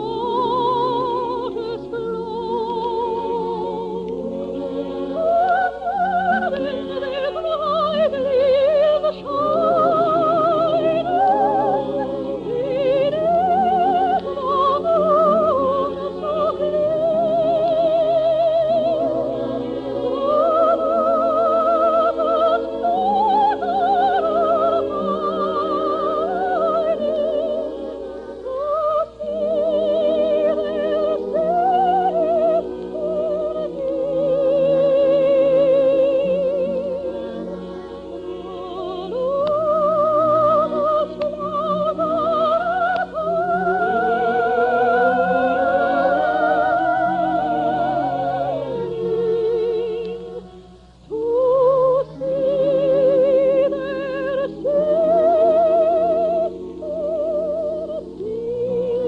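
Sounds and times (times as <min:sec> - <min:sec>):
operatic soprano singing: 0:00.0 - 0:59.0
orchestral accompaniment: 0:00.0 - 0:59.0.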